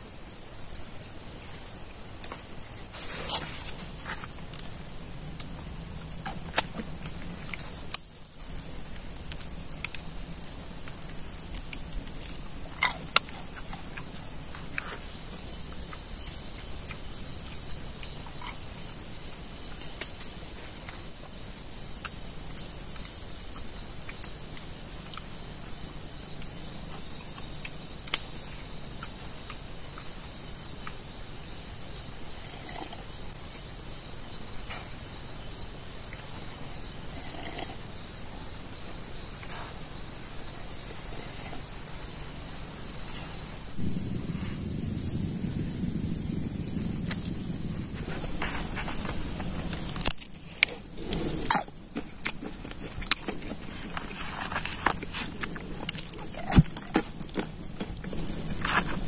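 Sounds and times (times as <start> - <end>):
insect chorus trilling: 0.0 - 59.0.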